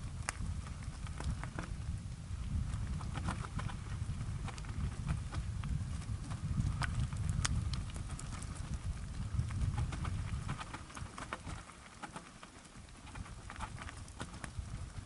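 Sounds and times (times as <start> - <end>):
bike tyres rattling on stones: 0.0 - 15.0
wind rumble on microphone: 0.0 - 15.0.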